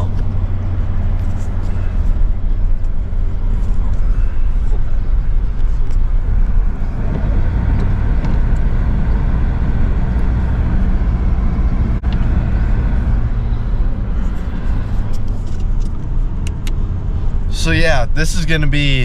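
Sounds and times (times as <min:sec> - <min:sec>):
car engine drone: 0:00.0 - 0:19.0
road rumble: 0:00.0 - 0:19.0.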